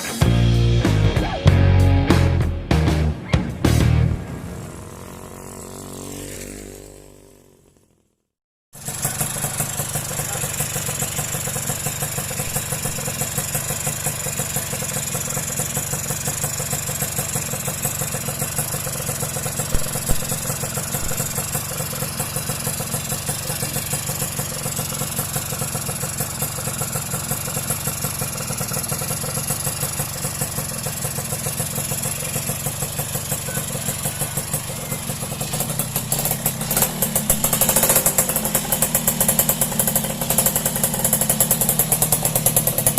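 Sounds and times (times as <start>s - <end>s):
two-stroke motorcycle idling: 3.2s - 8.0s, 8.8s - 42.9s.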